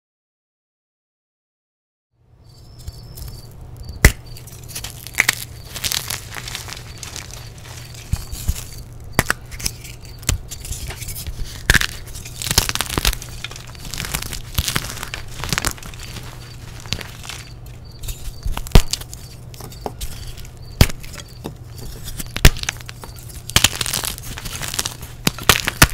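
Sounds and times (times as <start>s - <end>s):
chalk blocks cracking: 2.6s - 25.9s
powder crunching: 2.7s - 25.9s.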